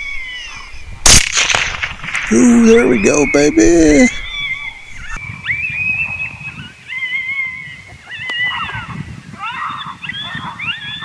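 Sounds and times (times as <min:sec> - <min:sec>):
coyotes howling and yipping: 0:00.0 - 0:11.0.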